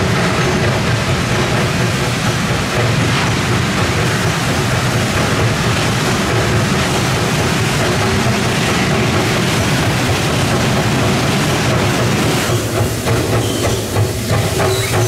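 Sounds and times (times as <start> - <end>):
locomotive rumbling: 0.0 - 15.0.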